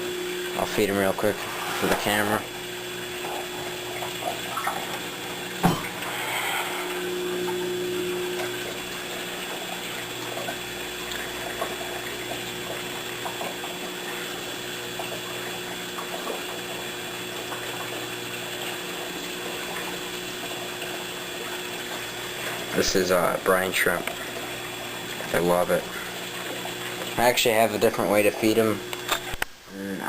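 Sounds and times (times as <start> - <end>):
aquarium water churning and trickling: 0.0 - 30.0
low electric hum: 0.0 - 30.0.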